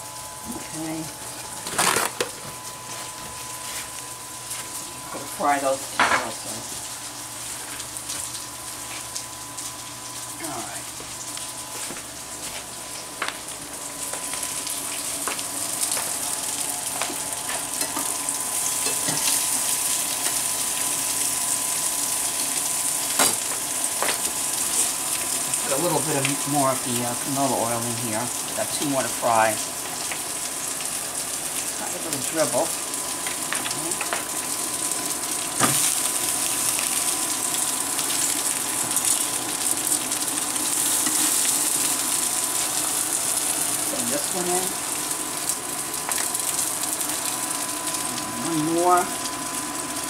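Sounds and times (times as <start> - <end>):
fish frying in oil: 0.0 - 50.0.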